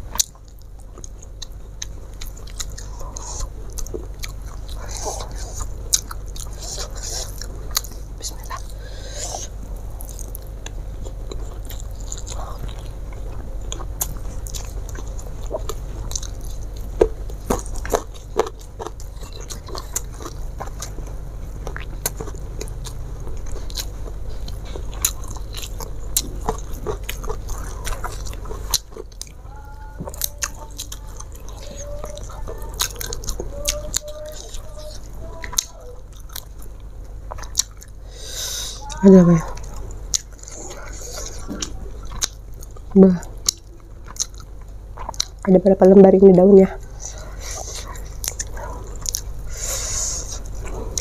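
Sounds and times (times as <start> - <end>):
person chewing: 0.0 - 45.5, 46.7 - 51.0
steady low hum: 0.0 - 51.0.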